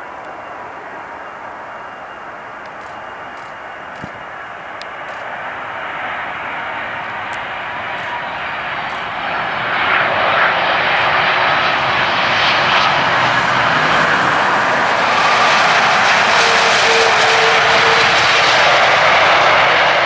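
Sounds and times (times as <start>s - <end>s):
jet airliner landing roar: 0.0s - 20.0s.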